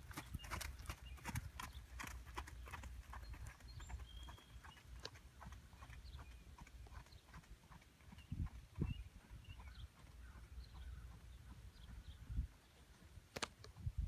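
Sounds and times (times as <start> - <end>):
horse hoofbeats on dirt: 0.0 - 14.0.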